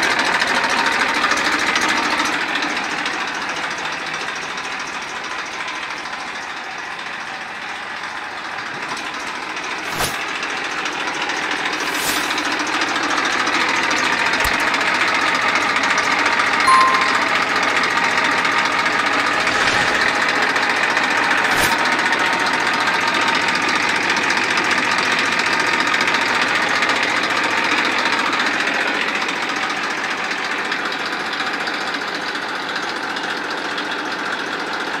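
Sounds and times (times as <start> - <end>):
tractor diesel engine running: 0.0 - 16.6, 17.4 - 35.0.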